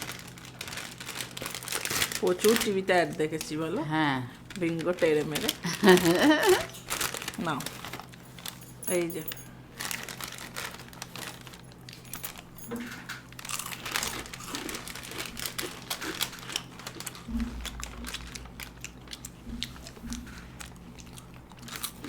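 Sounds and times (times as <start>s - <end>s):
chips crunching: 0.0s - 9.1s, 9.7s - 22.0s
plastic packet crinkling: 0.0s - 22.0s.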